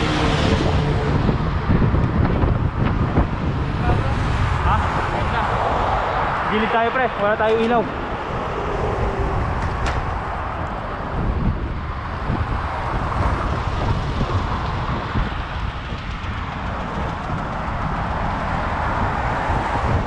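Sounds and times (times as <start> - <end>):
wind and road noise: 0.0 - 20.0
wind rumble on microphone: 0.0 - 20.0.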